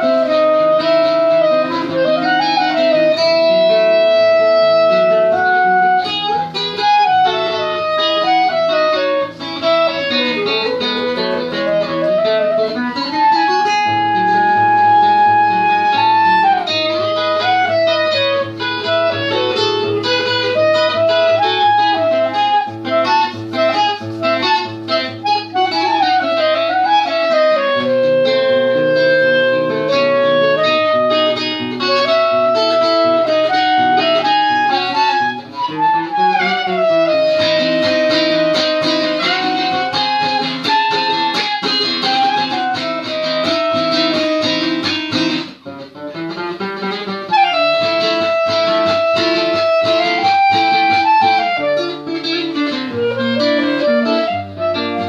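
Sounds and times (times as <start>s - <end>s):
clarinet melody: 0.0s - 55.0s
fingerpicked acoustic guitar: 0.0s - 55.0s.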